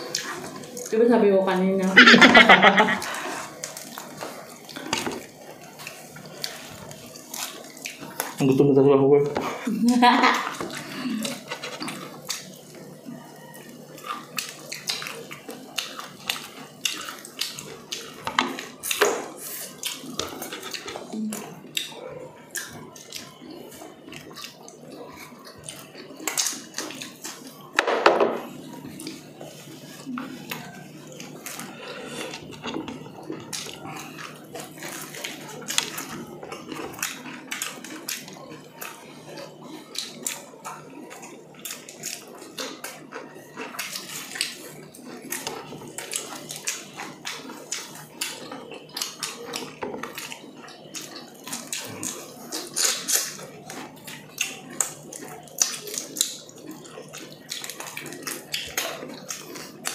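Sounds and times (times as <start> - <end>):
chewing: 0.0 - 1.0, 1.6 - 27.8, 28.4 - 59.9.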